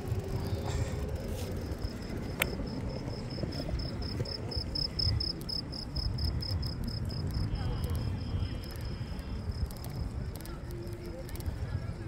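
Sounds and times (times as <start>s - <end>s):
cricket chirping: 0.0s - 12.0s
low rumble of moving bicycle: 0.0s - 12.0s.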